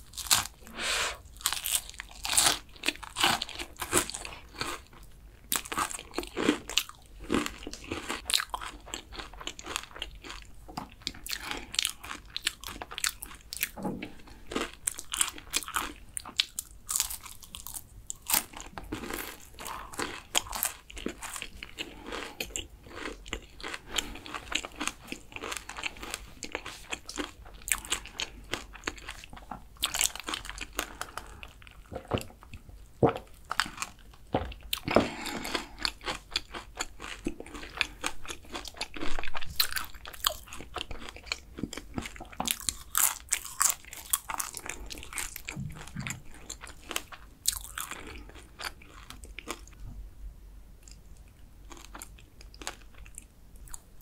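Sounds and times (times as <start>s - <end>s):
crunchy pastry chewing: 0.0s - 49.8s, 50.8s - 54.0s.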